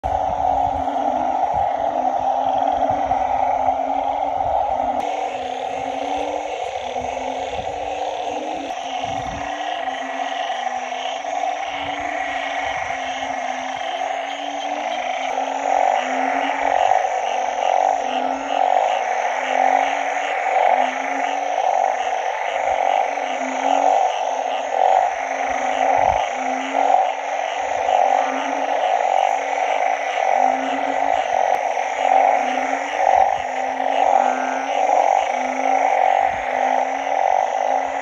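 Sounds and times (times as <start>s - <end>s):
higher pulsing frog call: 0.0s - 38.0s
low frog call: 0.0s - 38.0s
pulsing frog chorus: 0.0s - 38.0s.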